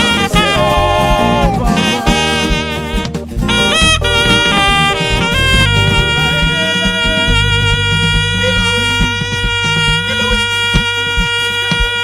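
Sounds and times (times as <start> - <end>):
band music: 0.0 - 12.0.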